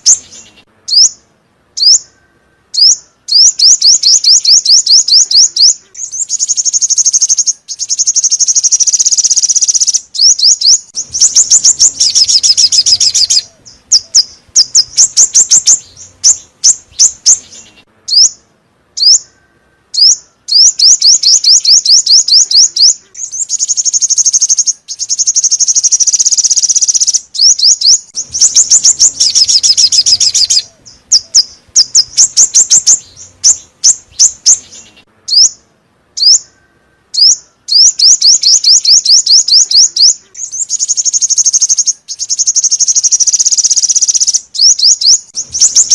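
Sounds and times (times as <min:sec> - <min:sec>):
bird chirping rapidly: 0:00.0 - 0:45.9.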